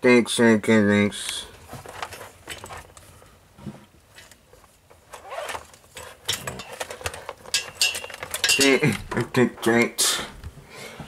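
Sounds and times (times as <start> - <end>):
cables and plugs clicking and rustling: 1.2 - 10.6.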